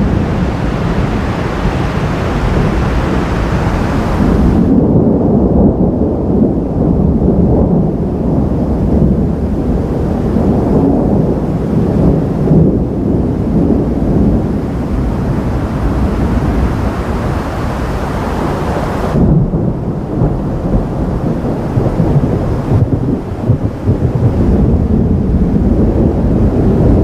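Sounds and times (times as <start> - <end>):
thunder rumbling: 0.0 - 27.0.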